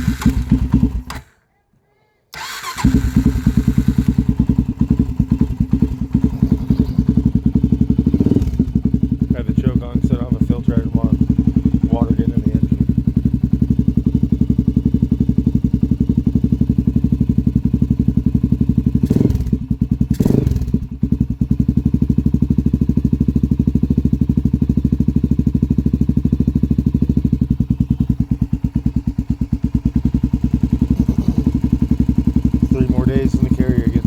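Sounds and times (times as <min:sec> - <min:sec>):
atv engine idling fast: 0:00.0 - 0:01.4, 0:02.4 - 0:34.0.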